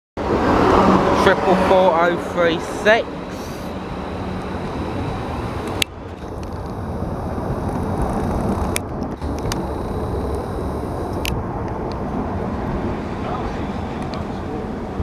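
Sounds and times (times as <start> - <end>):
electric train rumble: 0.2 - 15.0.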